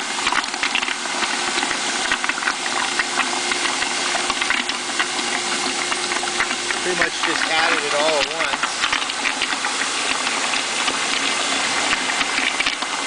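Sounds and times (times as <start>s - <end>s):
mixer motor hum: 0.0s - 13.0s
stirred liquid hissing and crackling: 0.0s - 13.0s.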